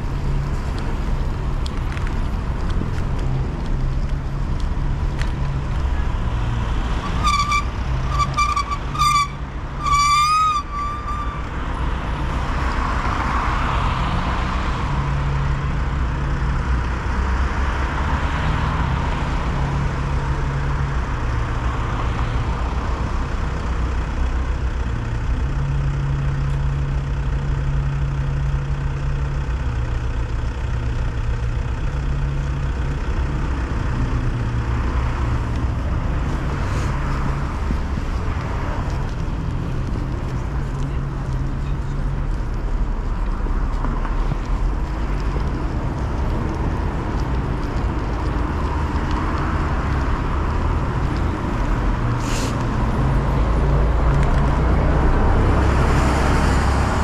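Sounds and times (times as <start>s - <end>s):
cars passing: 0.0s - 25.5s, 30.7s - 57.0s.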